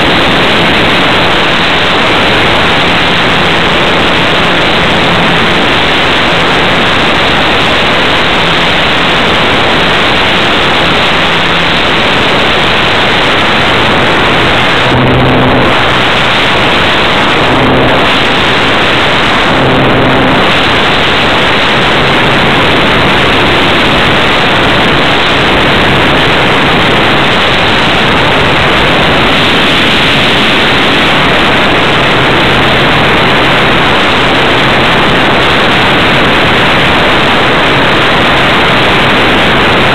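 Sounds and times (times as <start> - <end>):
air rushing over microphone: 0.0 - 39.9
low hum: 0.0 - 39.9.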